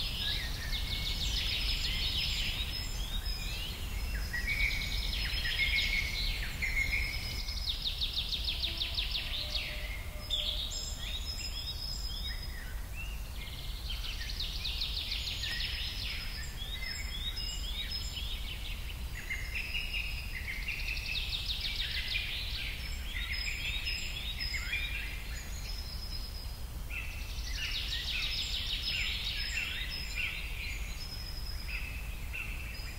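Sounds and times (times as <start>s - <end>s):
forest birds singing: 0.0s - 32.9s.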